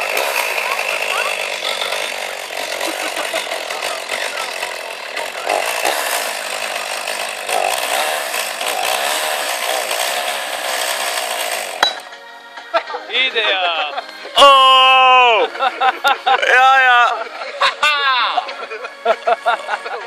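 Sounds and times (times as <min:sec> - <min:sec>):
chainsaw engine revving: 0:00.0 - 0:12.0, 0:14.6 - 0:20.0.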